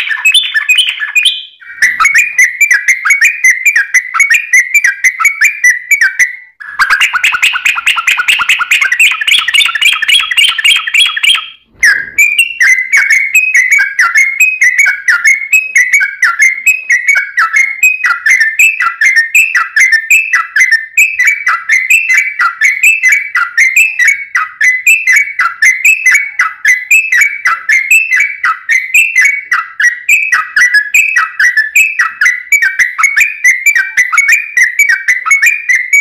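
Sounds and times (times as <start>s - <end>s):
bird singing whistled notes: 0.0s - 36.0s.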